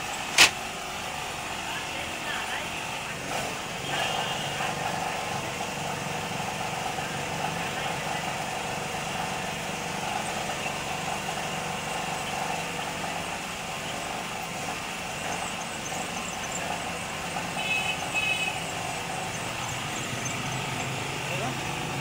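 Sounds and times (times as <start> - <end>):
photocopier humming: 0.0 - 22.0.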